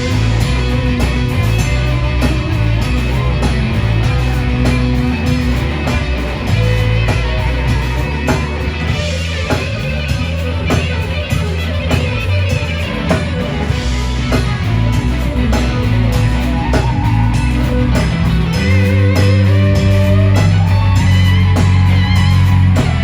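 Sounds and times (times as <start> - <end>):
bass guitar: 0.0 - 23.0
drum kit beat: 0.0 - 23.0
electric guitar: 0.0 - 23.0.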